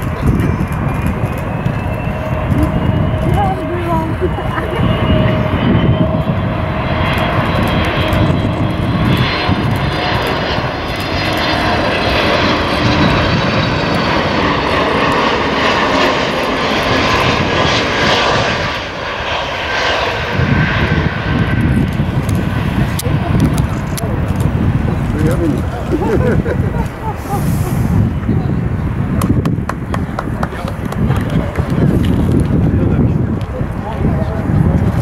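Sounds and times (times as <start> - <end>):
high whining fan tone: 0.0 - 35.0
jet airliner flying overhead: 0.0 - 35.0.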